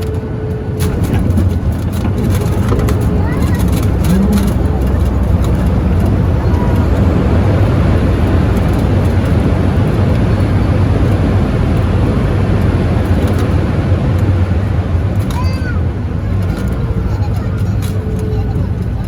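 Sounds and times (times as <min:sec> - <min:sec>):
airplane engine rumble in cabin: 0:00.0 - 0:19.0.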